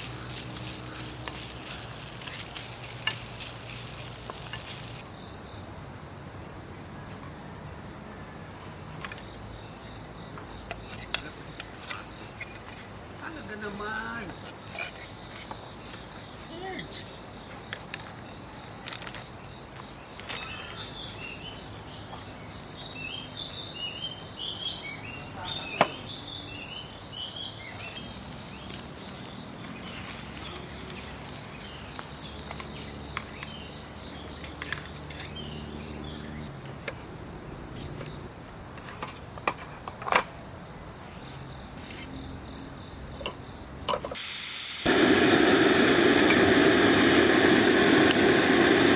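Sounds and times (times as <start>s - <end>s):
chorus of forest insects: 0.0s - 48.9s.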